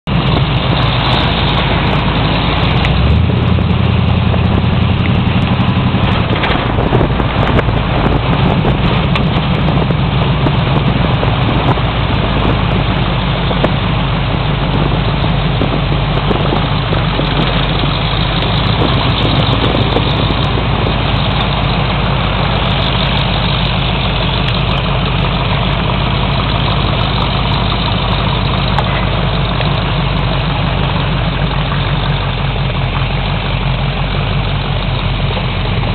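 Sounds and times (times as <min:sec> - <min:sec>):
car engine running: 0:00.0 - 0:35.9
road and air noise: 0:00.0 - 0:35.9.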